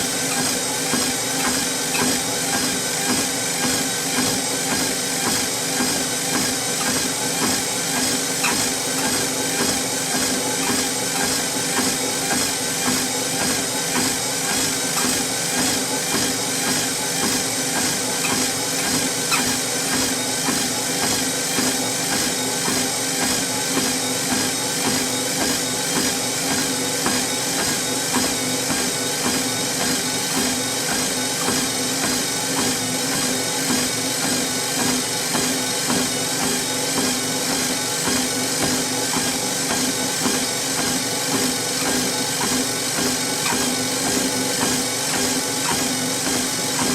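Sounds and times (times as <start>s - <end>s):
footsteps on treadmill belt: 0.0s - 46.9s
treadmill motor hum and belt whir: 0.0s - 46.9s.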